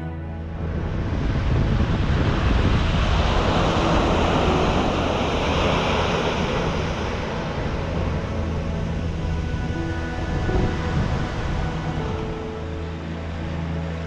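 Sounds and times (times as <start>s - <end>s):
waves breaking on beach: 0.6s - 14.0s.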